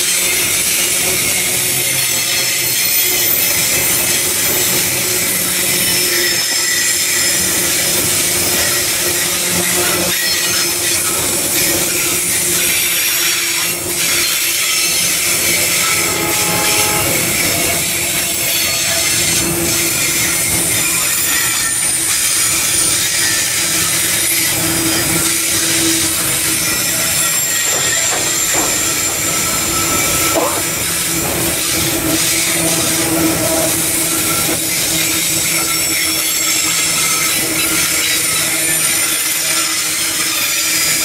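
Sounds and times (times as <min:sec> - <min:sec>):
wagon wheels rumbling on rail: 0:00.0 - 0:41.0
wheel squeals: 0:00.0 - 0:41.0.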